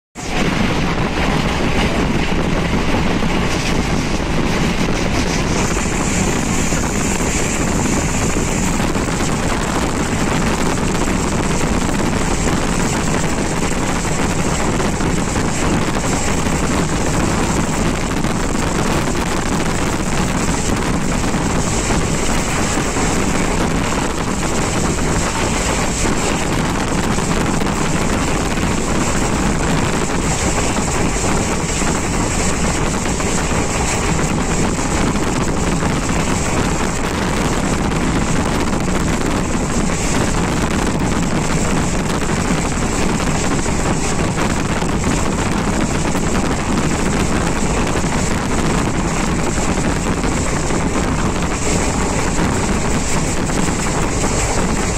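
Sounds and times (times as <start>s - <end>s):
moving vehicle rumble and wind: 0.0s - 54.9s.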